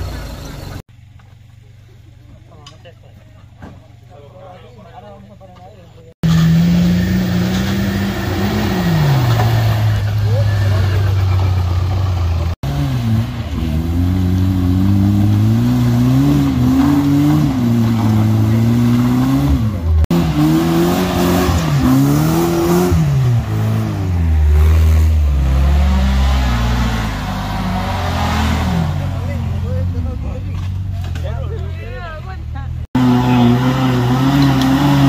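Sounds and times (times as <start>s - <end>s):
off-road engines revving: 6.0s - 35.0s.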